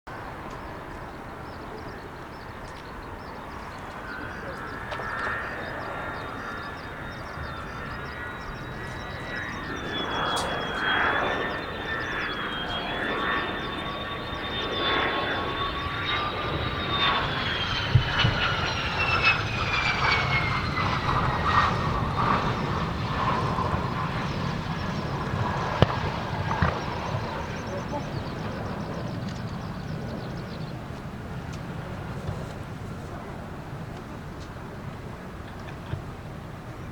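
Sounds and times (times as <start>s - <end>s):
jet engine whine and rush: 0.1s - 36.9s.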